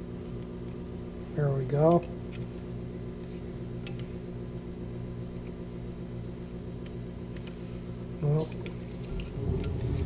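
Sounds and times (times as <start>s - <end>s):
low electric hum: 0.0s - 10.0s.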